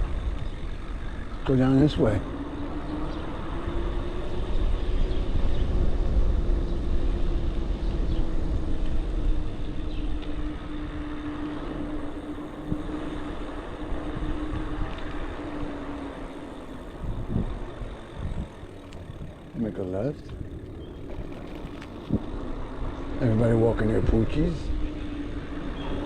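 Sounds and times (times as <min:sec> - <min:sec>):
e-bike motor hum: 0:00.0 - 0:26.0
road noise: 0:00.0 - 0:26.0
wind rumble on microphone: 0:00.0 - 0:26.0.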